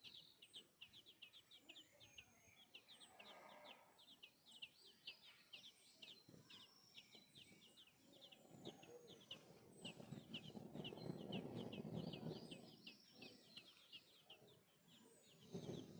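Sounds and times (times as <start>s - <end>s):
sparrow nestlings chirping: 0.0s - 15.9s.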